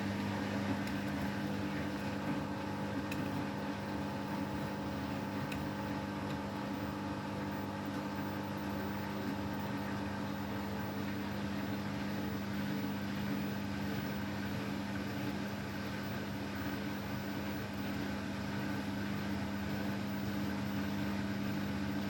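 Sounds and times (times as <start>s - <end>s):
washing machine motor hum: 0.0s - 22.0s
washing machine whining: 0.0s - 22.0s.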